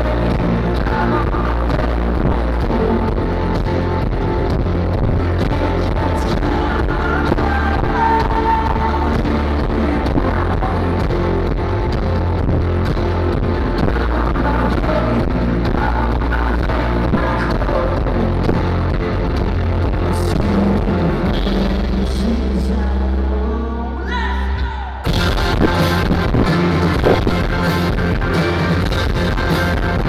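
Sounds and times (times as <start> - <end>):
bass: 0.0 - 30.0
drums: 0.0 - 30.0
electric guitars: 0.0 - 30.0.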